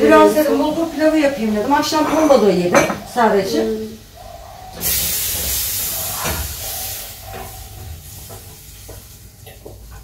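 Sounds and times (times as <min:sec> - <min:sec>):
pan hissing and sizzling: 0:00.0 - 0:10.0.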